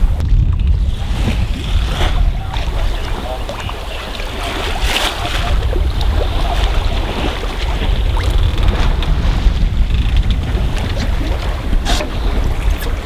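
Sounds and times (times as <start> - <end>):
water splashing along boat hull: 0.0 - 13.0
wind buffeting microphone: 0.0 - 13.0.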